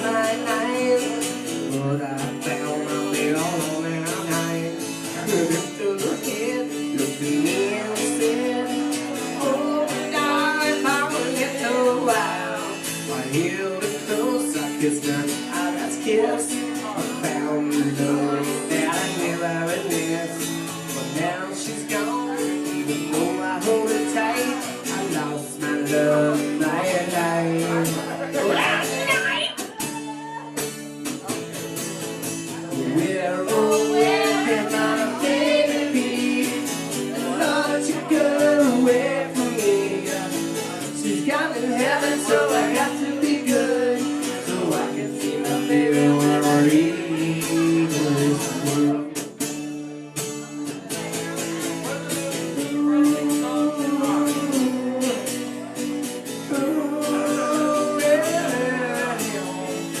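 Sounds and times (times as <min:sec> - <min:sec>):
person singing: 0:00.0 - 0:31.4, 0:32.4 - 0:49.4, 0:50.9 - 1:00.0
strummed guitar chords: 0:00.0 - 1:00.0.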